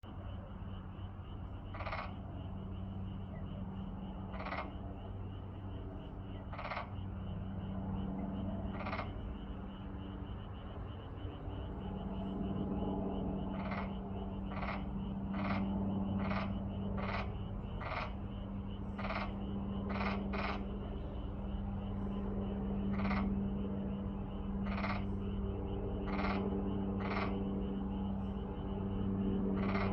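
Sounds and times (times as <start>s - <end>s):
frogs calling: 0.0s - 29.9s
short harsh frog calls: 0.6s - 29.9s.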